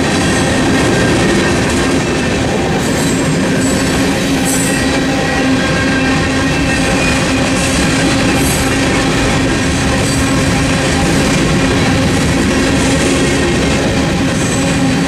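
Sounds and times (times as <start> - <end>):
freight train rolling past: 0.0 - 15.0
steel wheels clattering on rails: 0.0 - 15.0.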